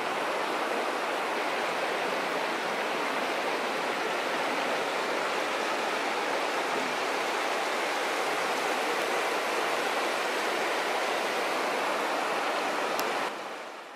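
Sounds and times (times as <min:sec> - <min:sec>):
rushing water: 0:00.0 - 0:13.9.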